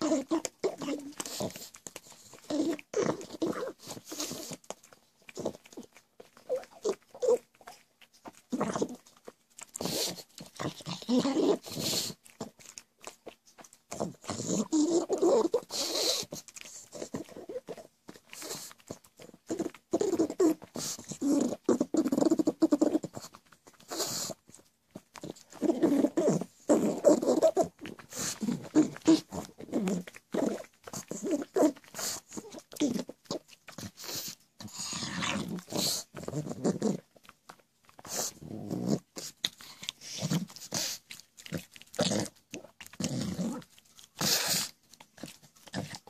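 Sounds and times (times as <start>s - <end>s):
dog snorting and snuffling: 0.0s - 46.0s.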